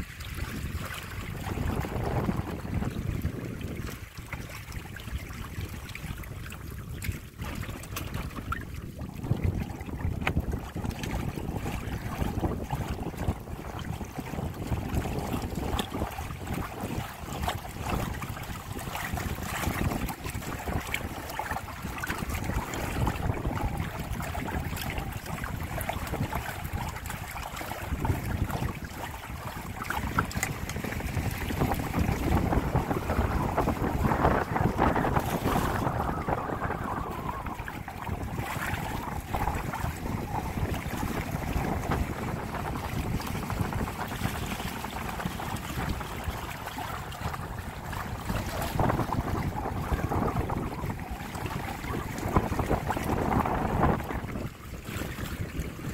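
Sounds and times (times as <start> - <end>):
water rushing along boat hulls: 0.0 - 55.9
wind buffeting microphone: 0.0 - 55.9.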